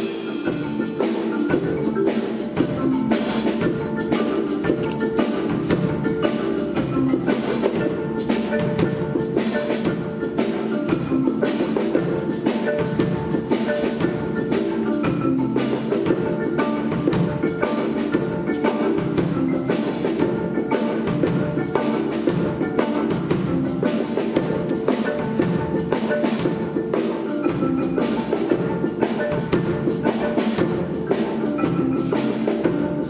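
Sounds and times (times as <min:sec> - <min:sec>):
drum strokes: 0:00.0 - 0:33.0
marimba mallet notes: 0:00.0 - 0:33.0.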